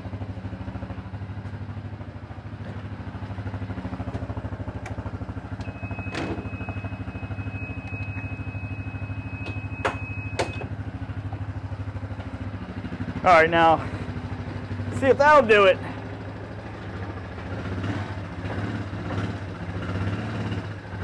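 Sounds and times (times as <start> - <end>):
atv engine idling: 0.0 - 19.8.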